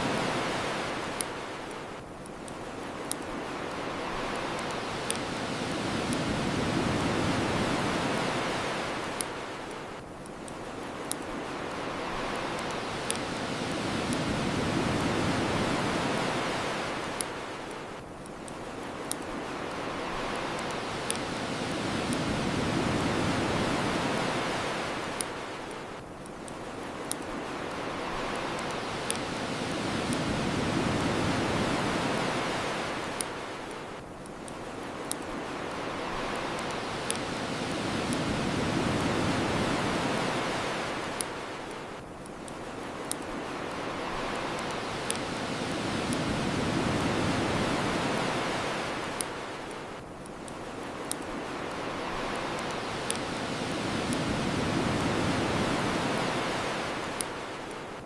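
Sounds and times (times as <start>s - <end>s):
bonfire crackling: 0.0s - 58.0s
ocean waves washing onto shore: 0.0s - 58.0s.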